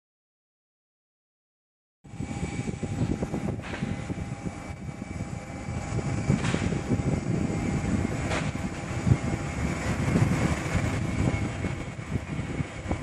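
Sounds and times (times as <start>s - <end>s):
jet aircraft high-pitched whine: 2.1s - 13.0s
wind buffeting microphone: 2.1s - 13.0s.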